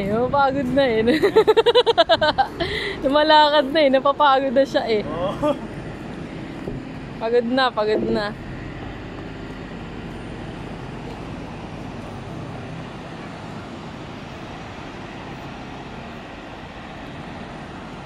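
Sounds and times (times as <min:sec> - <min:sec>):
outdoor low rumble and hiss: 0:00.0 - 0:18.0.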